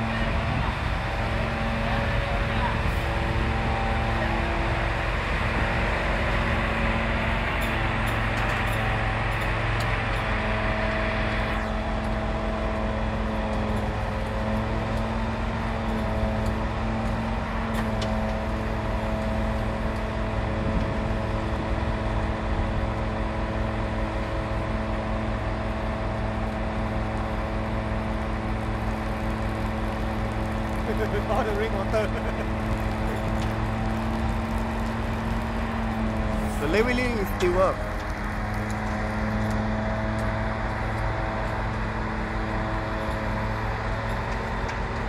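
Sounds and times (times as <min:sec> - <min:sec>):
fire truck engine running: 0:00.0 - 0:45.0.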